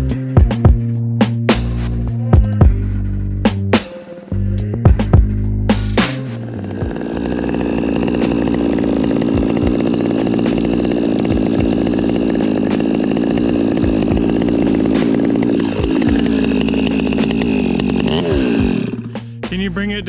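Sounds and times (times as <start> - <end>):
chainsaw running: 1.5 - 20.0.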